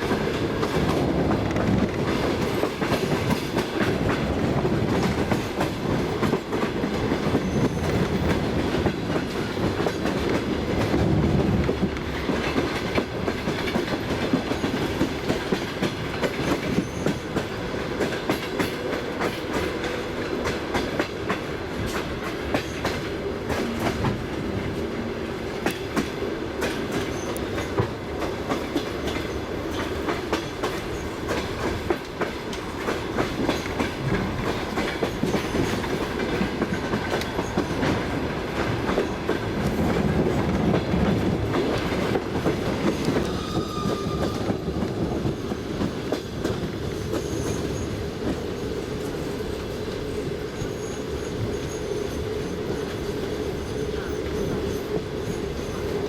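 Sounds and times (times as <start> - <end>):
train wheels clicking over rail joints: 0.0 - 24.8, 25.5 - 53.2
train rumble: 0.0 - 56.0.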